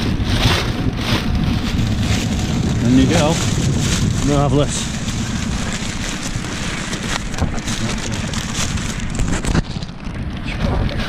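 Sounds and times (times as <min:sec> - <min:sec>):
plastic bag crinkling: 0:00.0 - 0:10.2
wind buffeting microphone: 0:00.0 - 0:11.0.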